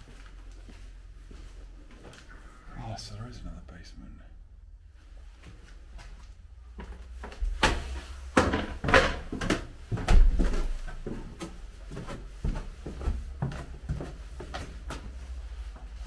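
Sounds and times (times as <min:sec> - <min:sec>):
footsteps on hard floor: 0:00.0 - 0:02.3, 0:05.3 - 0:16.0.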